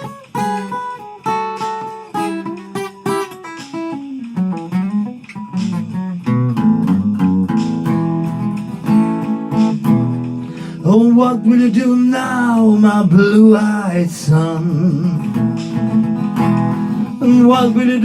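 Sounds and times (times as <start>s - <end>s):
plucked guitar notes: 0.0s - 18.0s
strummed guitar chords: 0.0s - 18.0s.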